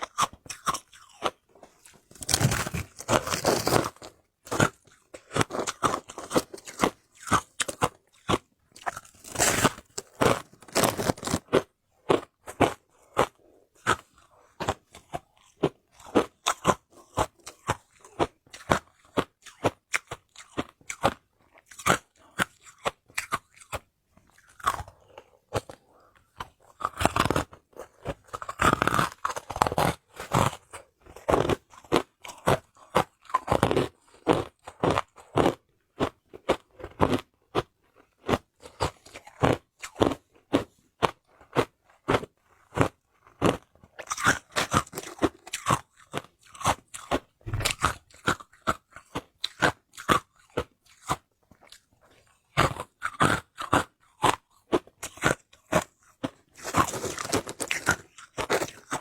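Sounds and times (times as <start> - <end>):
ice being chewed: 0.0 - 59.0.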